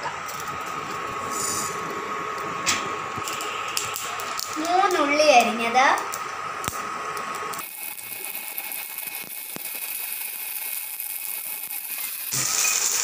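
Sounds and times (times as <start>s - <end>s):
food sizzling in hot oil: 0.1s - 13.0s.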